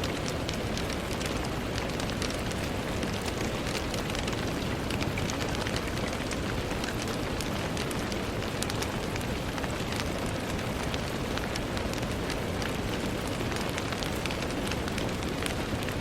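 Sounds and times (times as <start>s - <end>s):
rain pattering on a window: 0.0s - 16.0s.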